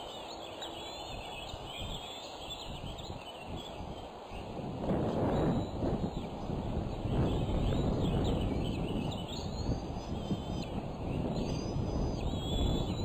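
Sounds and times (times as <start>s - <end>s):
high whistled bird calls: 0.0s - 4.6s, 5.2s - 13.0s.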